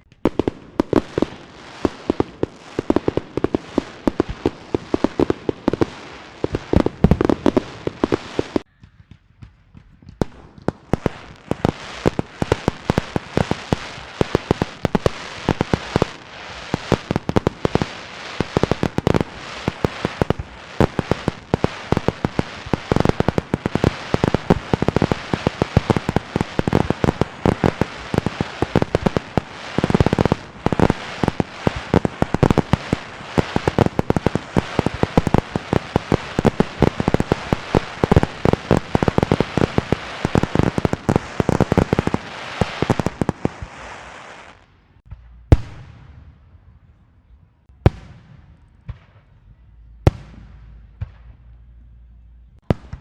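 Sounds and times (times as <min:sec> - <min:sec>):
fireworks banging and crackling: 0:00.0 - 0:46.4, 0:47.7 - 0:49.4, 0:52.6 - 0:53.0.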